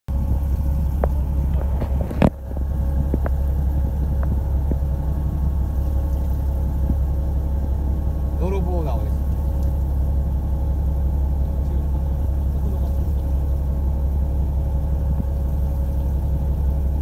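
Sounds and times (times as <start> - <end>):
boat engine droning: 0.1 - 17.0.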